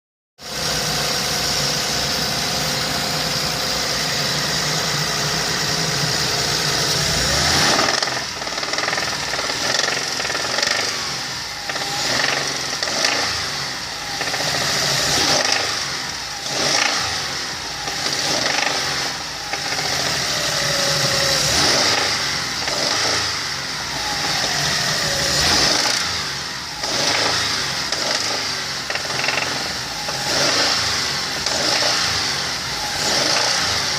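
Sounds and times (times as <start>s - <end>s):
car engine revving: 0.6s - 33.9s.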